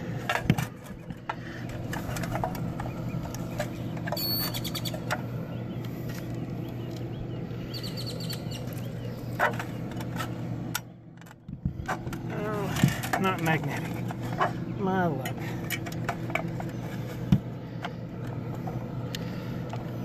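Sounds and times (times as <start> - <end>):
steady low hum: 0.0 - 20.0
birds chirping: 0.9 - 20.0.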